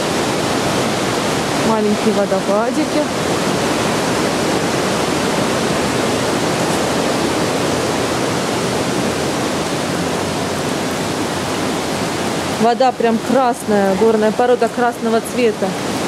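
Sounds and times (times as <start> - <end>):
river rushing over waterfalls: 0.0 - 16.0.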